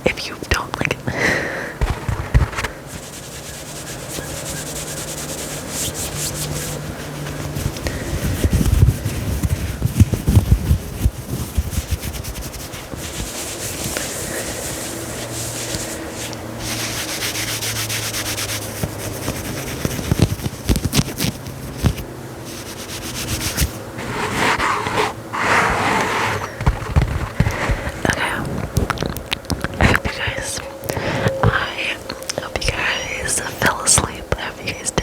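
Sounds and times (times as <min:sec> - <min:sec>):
fabric scratched and rubbed: 0:01.8 - 0:34.0.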